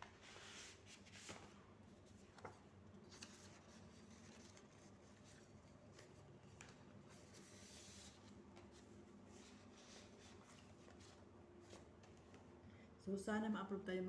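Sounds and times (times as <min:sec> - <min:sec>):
paper rustling and scratching: 0:00.0 - 0:12.4.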